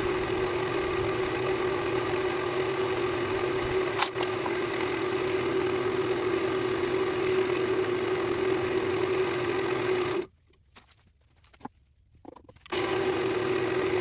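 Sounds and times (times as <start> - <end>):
power tool motor running: 0.0 - 10.3, 12.7 - 14.0.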